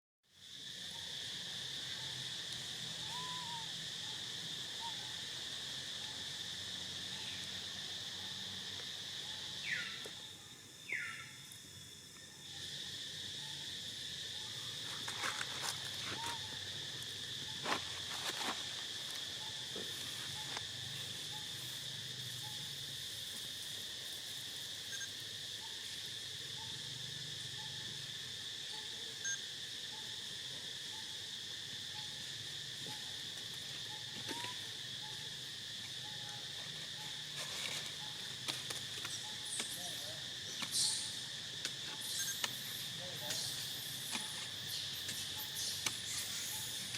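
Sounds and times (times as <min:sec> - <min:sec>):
insects droning: 0:00.3 - 0:46.9.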